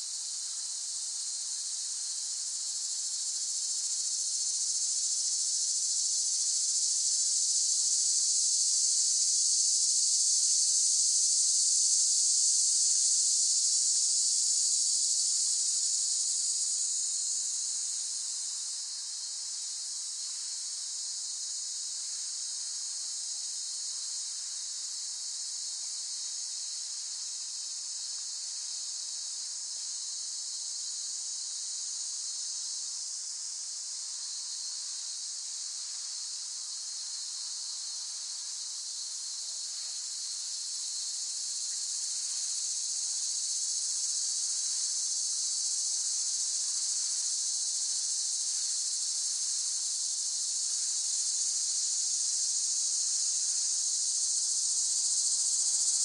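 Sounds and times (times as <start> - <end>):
cicadas droning: 0.0 - 56.0.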